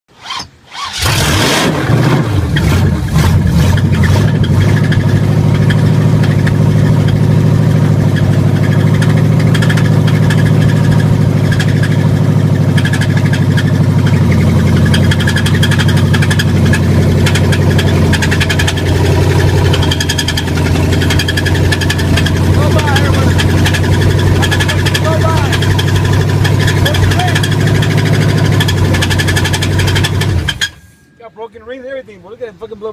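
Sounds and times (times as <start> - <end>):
engine idling: 2.0 - 31.2.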